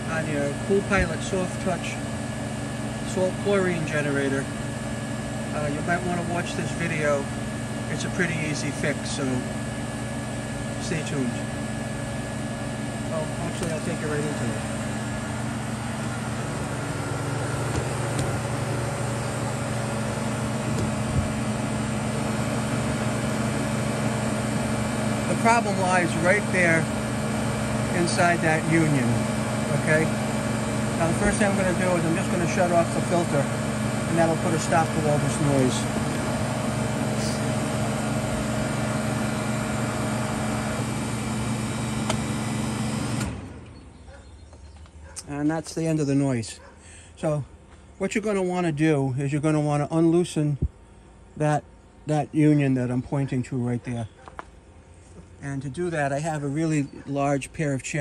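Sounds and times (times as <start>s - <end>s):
pool filter pump humming: 0.0s - 58.0s.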